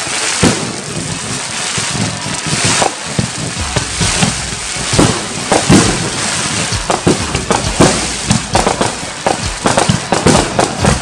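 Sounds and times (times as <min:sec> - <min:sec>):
fireworks bangs: 0:00.0 - 0:11.0
steady hiss: 0:00.0 - 0:11.0.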